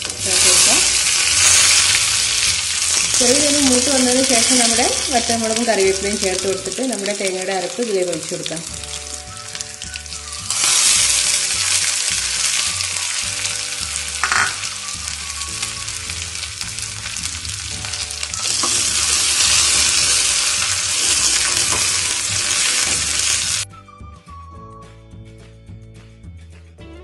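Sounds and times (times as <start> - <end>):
spices sizzling in hot oil: 0.0 - 23.7.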